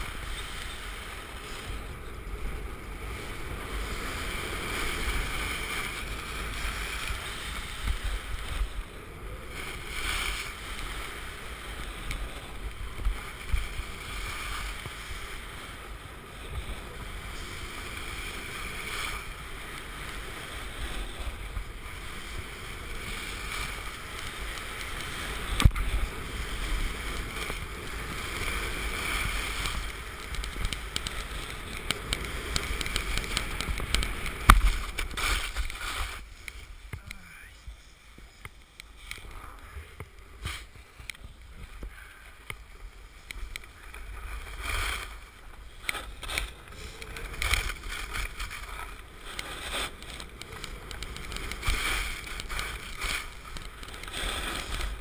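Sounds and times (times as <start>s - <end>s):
skis scraping over snow: 0.0s - 55.0s
wind rumbling on microphone: 0.0s - 55.0s.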